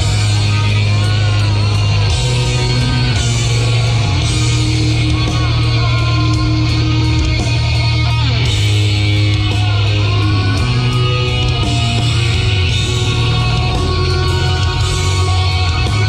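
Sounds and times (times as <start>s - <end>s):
heavy rock music with electric guitar: 0.0s - 16.0s.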